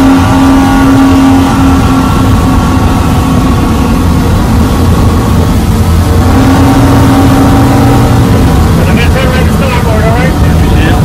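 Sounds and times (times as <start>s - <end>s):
outboard engines running: 0.0s - 11.0s.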